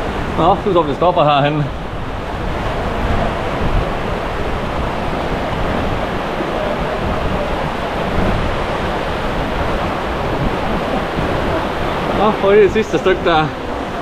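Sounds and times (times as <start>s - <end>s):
fast-flowing river water: 0.0s - 14.0s.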